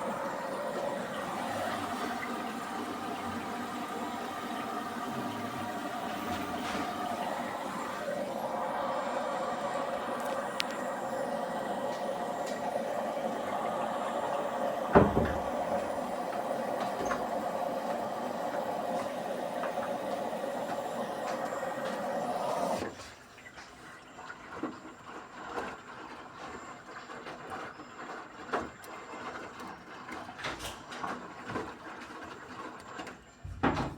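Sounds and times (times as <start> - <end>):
washing machine water rushing in: 0.0 - 33.9.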